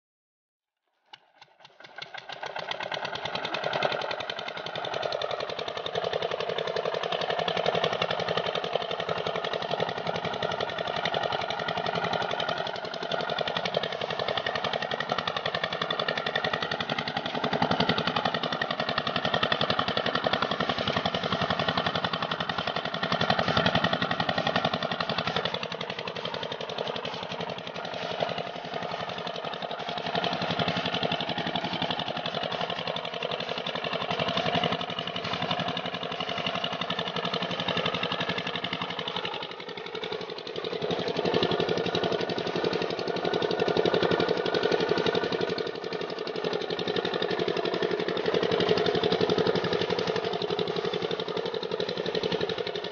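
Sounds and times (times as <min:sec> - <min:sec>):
diesel pump engine chugging: 0:01.6 - 0:52.9.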